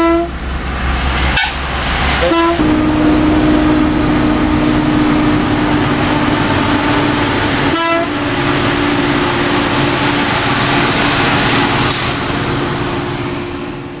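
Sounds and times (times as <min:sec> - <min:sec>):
vehicle engine drone and road noise: 0:00.0 - 0:14.0.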